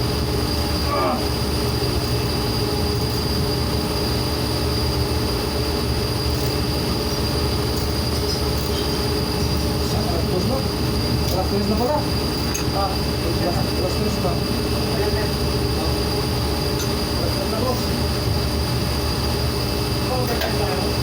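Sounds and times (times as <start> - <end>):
high-pitched machine whine: 0.0 - 21.0.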